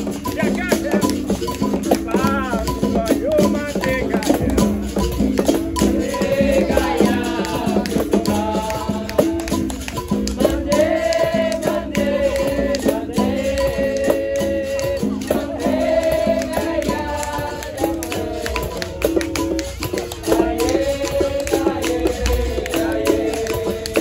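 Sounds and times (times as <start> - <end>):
berimbau rhythm: 0.0 - 24.0
rattling percussion: 0.0 - 24.0
voices singing: 0.0 - 24.0.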